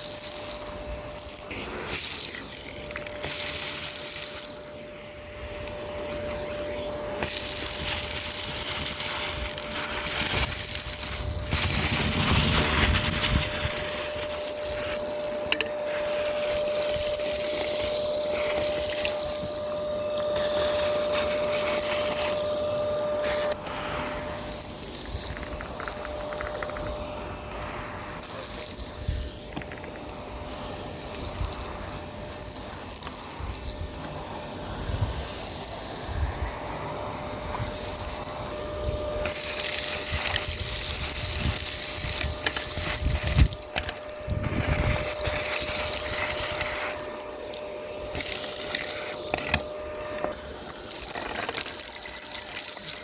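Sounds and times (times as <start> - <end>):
debris crackling through a hose: 0.0 - 53.0
suction hiss: 0.0 - 53.0
vacuum cleaner motor running: 0.0 - 53.0.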